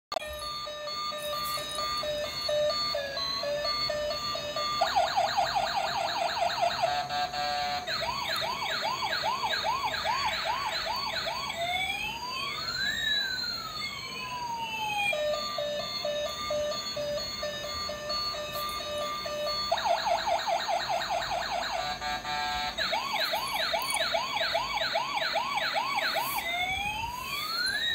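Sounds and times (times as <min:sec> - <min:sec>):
electronic toy siren: 0:00.1 - 0:27.9
toy beeping tune: 0:00.1 - 0:27.9.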